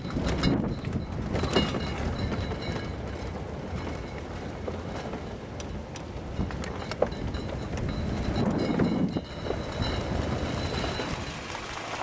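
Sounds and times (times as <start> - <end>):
pickup truck rumbling: 0.0 - 12.0
truck body rattling: 0.0 - 12.0.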